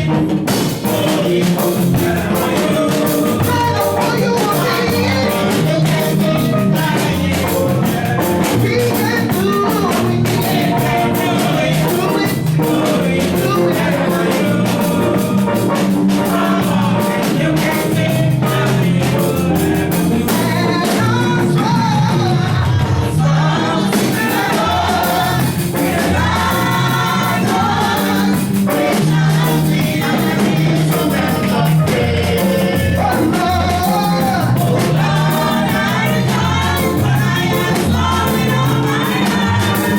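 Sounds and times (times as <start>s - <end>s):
group of voices singing: 0.0s - 39.9s
percussion beat: 0.0s - 39.9s.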